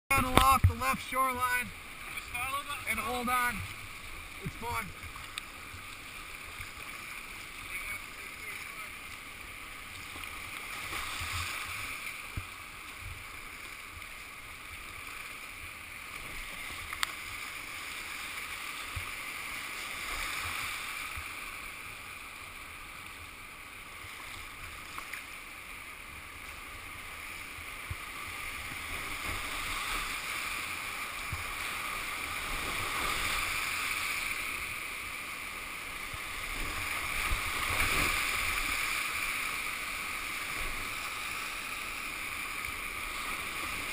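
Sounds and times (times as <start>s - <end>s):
whitewater rushing and splashing: 0.1s - 43.9s.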